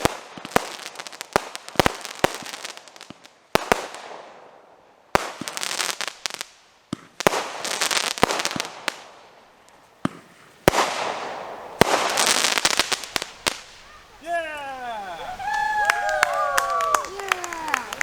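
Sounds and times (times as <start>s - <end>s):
firework bangs: 0.0s - 18.0s
firework crackling spray: 0.0s - 18.0s.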